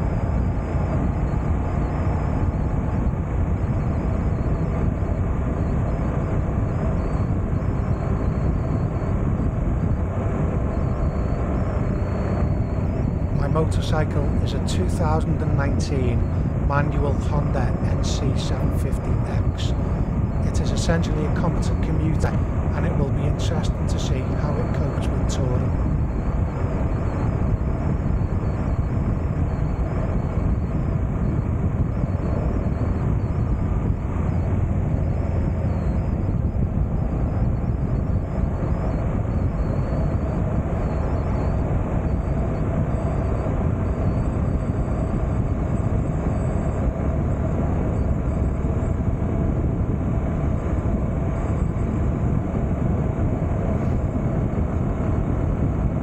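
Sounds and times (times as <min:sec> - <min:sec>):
road noise: 0:00.0 - 0:56.0
wind rush: 0:00.0 - 0:56.0.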